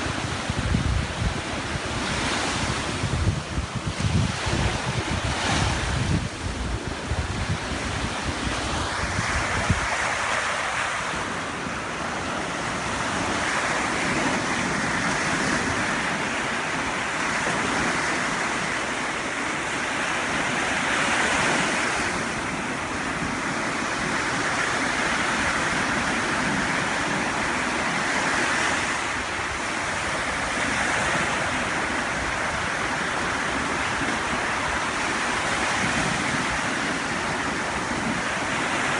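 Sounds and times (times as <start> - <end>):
ocean surf breaking: 0.0 - 38.9
wind buffeting microphone: 0.0 - 38.9.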